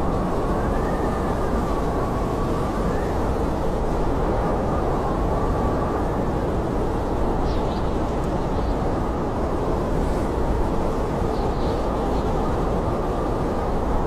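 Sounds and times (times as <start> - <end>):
faint wavering wind whistle: 0.0 - 14.0
wind roaring: 0.0 - 14.0.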